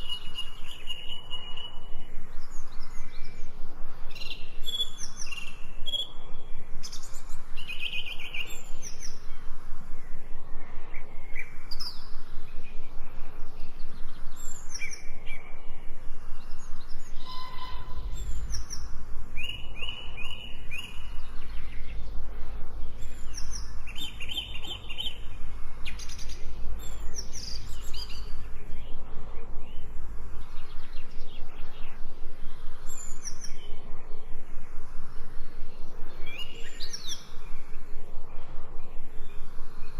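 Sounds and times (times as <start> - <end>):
songbirds chirping and singing: 0.0 - 34.4, 35.3 - 39.9.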